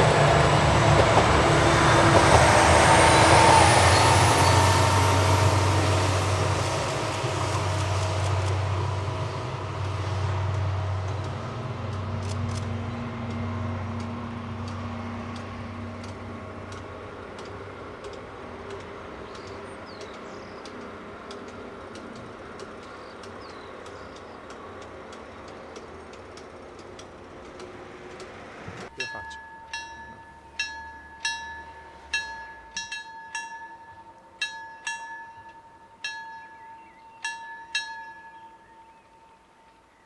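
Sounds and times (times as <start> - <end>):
diesel railcar engine and rail noise: 0.0 - 40.0.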